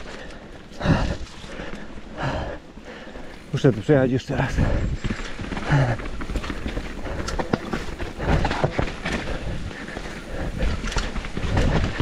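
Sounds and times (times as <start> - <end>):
bike knocking and rattling: 0.0 - 12.0
bike tyres rolling over dirt: 0.0 - 12.0.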